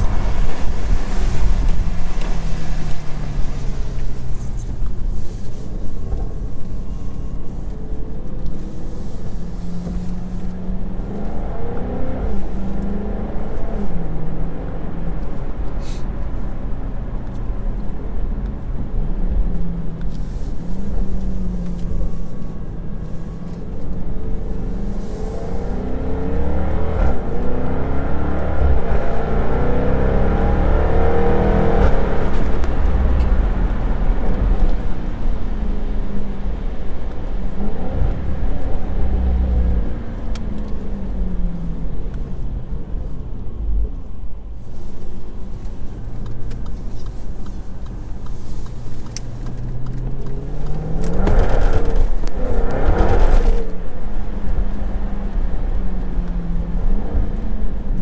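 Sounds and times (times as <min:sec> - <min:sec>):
car engine heard from cabin: 0:00.0 - 0:58.0.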